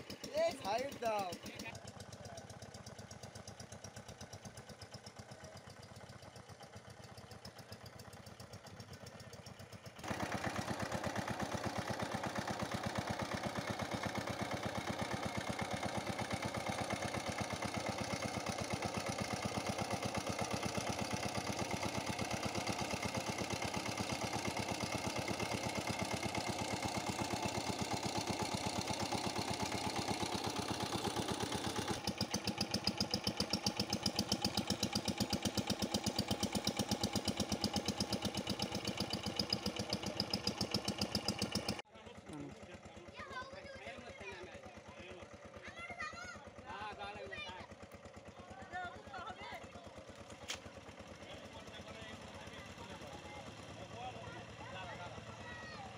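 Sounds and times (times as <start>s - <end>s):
small diesel engine running: 0.0s - 55.9s.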